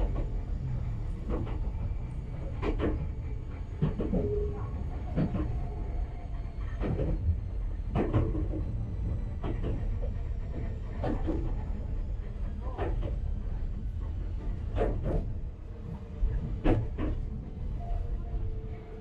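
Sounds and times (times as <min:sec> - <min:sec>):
train knocks and creaks: 0:00.0 - 0:19.0
train rumbling: 0:00.0 - 0:19.0.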